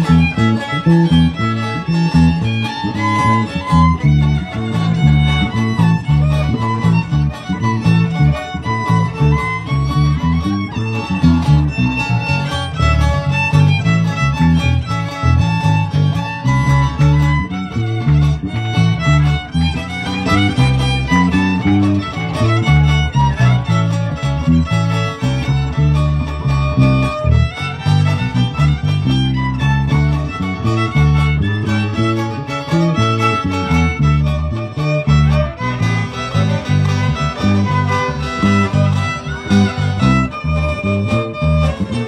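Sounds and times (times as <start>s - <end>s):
violin melody: 0.0s - 42.0s.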